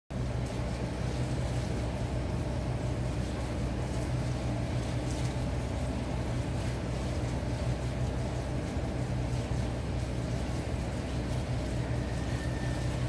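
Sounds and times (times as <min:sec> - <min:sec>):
low aquarium hum: 0:00.1 - 0:13.0.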